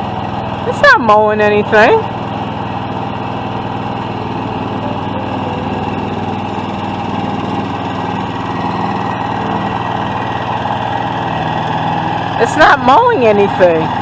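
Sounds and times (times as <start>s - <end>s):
mower engine running: 0.0s - 14.0s.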